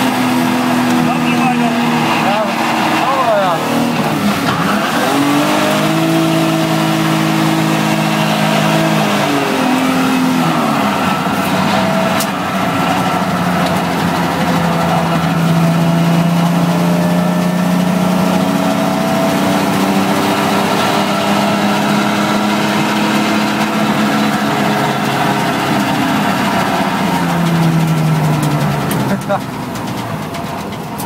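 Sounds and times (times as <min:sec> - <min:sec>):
car engine from inside cabin: 0:00.0 - 0:31.0.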